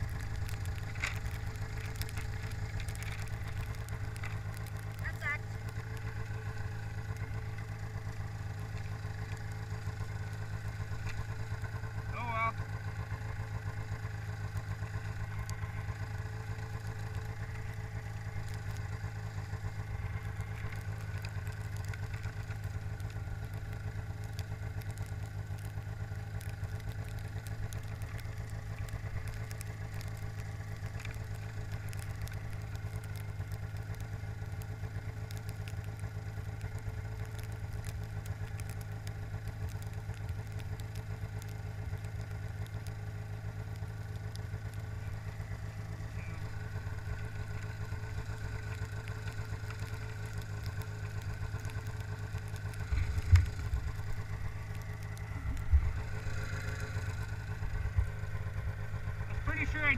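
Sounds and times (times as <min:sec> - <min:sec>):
faint ticks: 0:00.0 - 0:59.9
snowmobile engine idling: 0:00.0 - 0:59.9.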